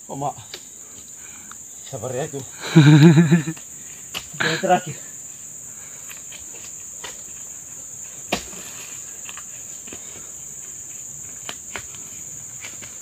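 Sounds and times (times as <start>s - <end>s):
high insect chirring: 0.0s - 13.0s.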